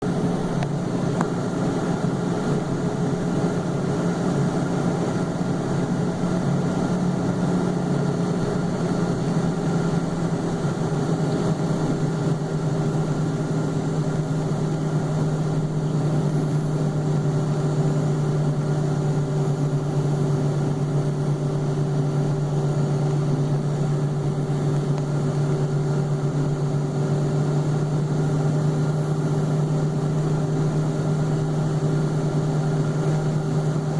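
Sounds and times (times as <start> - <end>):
jet engine drone: 0.0 - 33.9.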